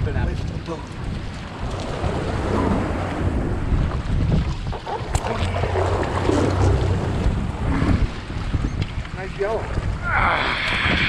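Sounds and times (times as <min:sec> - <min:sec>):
water splashing against hull: 0:00.0 - 0:11.0
wind buffeting microphone: 0:00.0 - 0:11.0
outboard motors running: 0:00.8 - 0:09.9.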